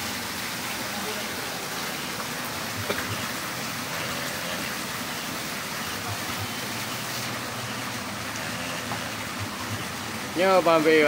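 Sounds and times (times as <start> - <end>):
water pouring into pond: 0.0 - 11.0.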